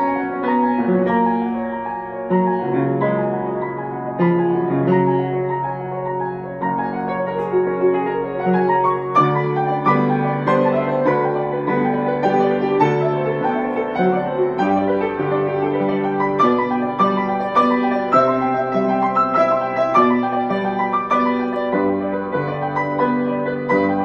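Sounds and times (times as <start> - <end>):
solo piano carol: 0.0 - 24.0.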